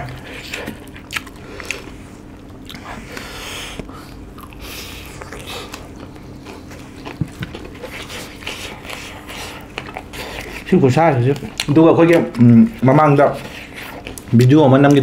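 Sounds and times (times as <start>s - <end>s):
wet smacking and crunching: 0.0s - 3.2s, 3.8s - 15.0s
chewing fried chicken: 0.0s - 15.0s.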